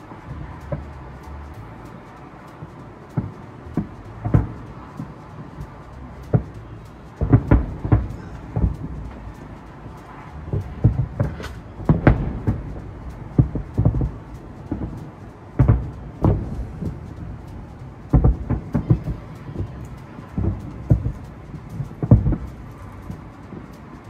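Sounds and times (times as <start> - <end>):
distant fireworks booming: 0.0 - 24.0.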